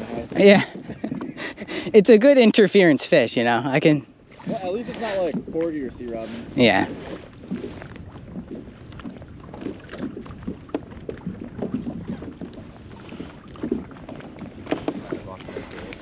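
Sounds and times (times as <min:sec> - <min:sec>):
wind rumble on microphone: 0:00.0 - 0:02.0, 0:03.7 - 0:16.0
small waves lapping against a hull: 0:00.0 - 0:16.0.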